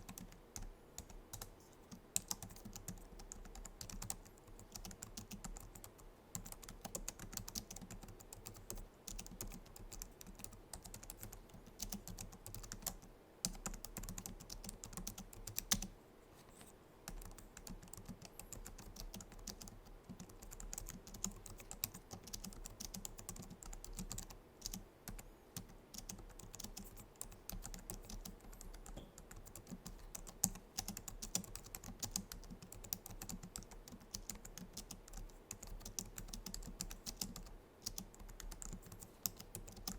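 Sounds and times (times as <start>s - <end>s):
keyboard typing clicks: 2.2s - 15.9s, 17.1s - 39.9s.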